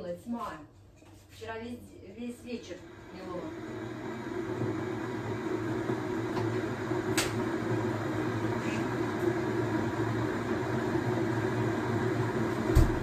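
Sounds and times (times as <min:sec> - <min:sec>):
kitchen appliance humming: 0:02.3 - 0:13.0.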